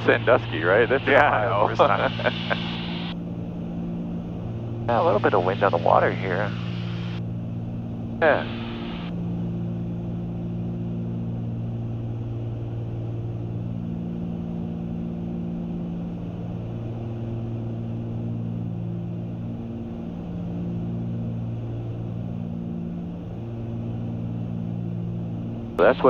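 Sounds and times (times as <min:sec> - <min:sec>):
airplane engine drone: 0:00.0 - 0:26.0.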